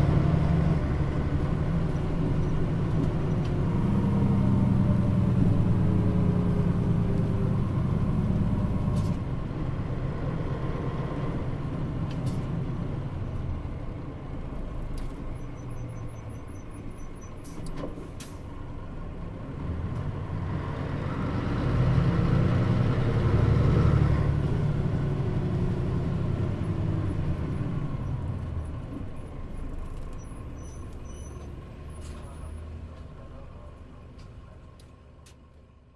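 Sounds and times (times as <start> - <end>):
bus engine: 0.0 - 35.9.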